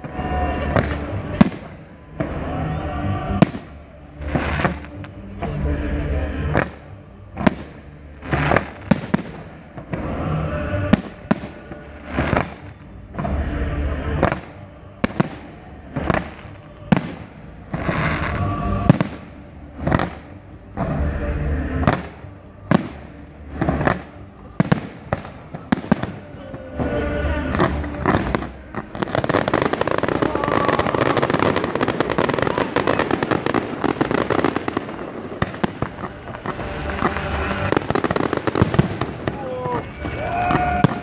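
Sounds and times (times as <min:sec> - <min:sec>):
firework crackle: 0:00.0 - 0:41.0.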